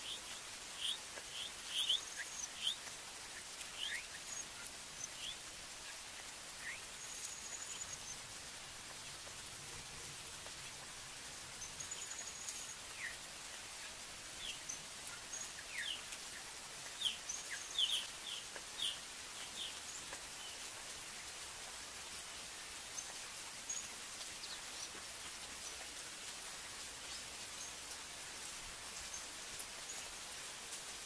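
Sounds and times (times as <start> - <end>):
rain on forest canopy: 0.0 - 31.0.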